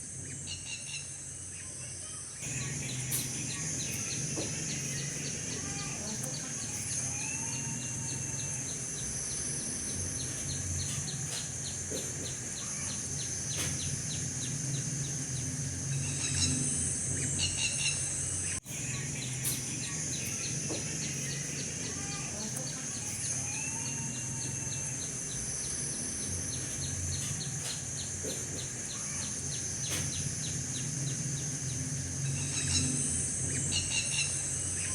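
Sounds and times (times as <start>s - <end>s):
insect buzzing: 0.0s - 34.9s
low steady hum: 0.0s - 34.9s
bird chirps: 0.2s - 34.9s
rapid insect ticking: 2.4s - 34.9s.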